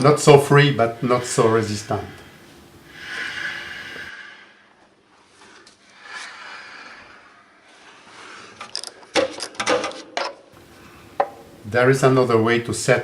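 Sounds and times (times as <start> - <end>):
faint background hiss: 0.0 - 8.6, 10.4 - 13.0.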